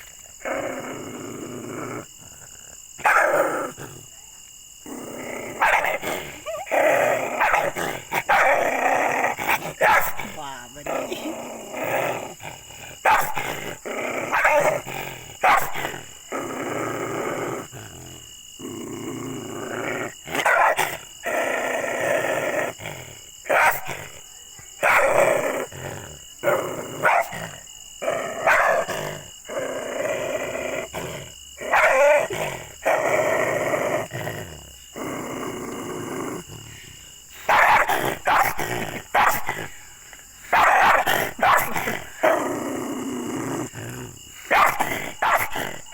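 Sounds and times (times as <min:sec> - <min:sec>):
dog growling: 0:00.0 - 0:04.1, 0:04.8 - 0:24.2, 0:24.8 - 0:39.8, 0:40.5 - 0:45.9
dog barking aggressively: 0:03.0 - 0:04.0, 0:04.9 - 0:18.1, 0:19.2 - 0:24.2, 0:24.8 - 0:36.6, 0:37.4 - 0:39.8, 0:40.4 - 0:45.9.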